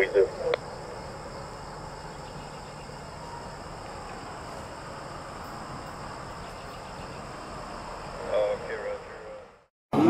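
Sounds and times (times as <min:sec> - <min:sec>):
background hiss: 0:00.0 - 0:09.6.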